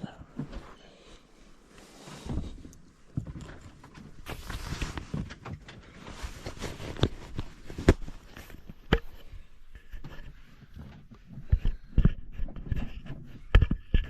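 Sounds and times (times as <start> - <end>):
rustling: 1.5 - 13.4.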